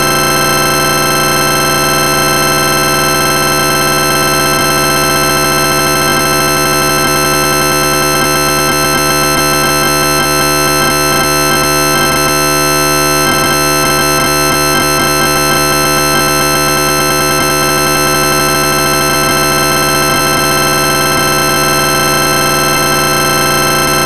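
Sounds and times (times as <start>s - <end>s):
synthesizer chord buzzing: 0.0s - 24.0s.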